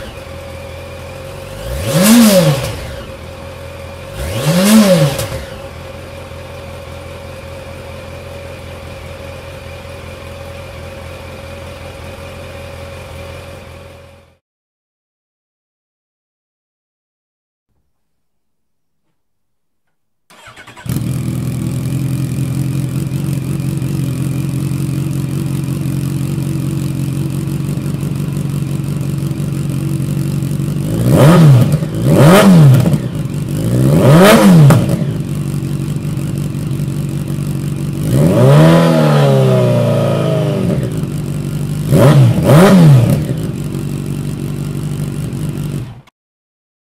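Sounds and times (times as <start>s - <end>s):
motorcycle engine idling and revving: 0.0s - 14.4s, 20.3s - 46.1s.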